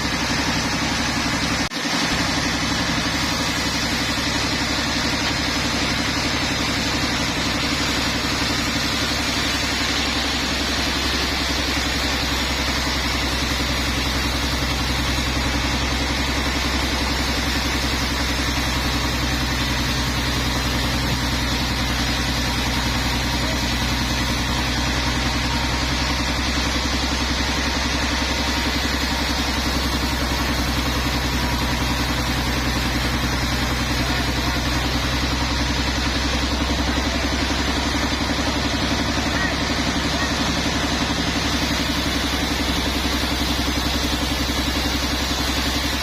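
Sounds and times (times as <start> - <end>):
sawmill machinery humming: 0.0 - 46.0.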